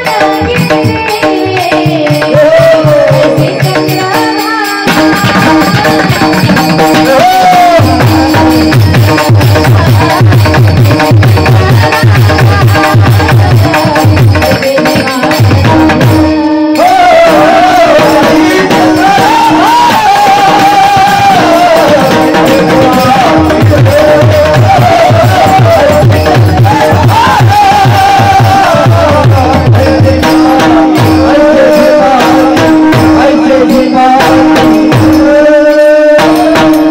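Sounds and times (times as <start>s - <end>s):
hand-drum strokes: 0.0s - 36.9s
woman singing: 0.0s - 36.9s.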